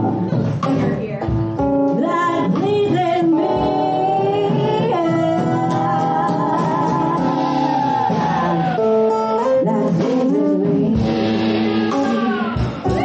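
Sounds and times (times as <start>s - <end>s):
drums: 0.0s - 13.0s
guitar: 0.0s - 13.0s.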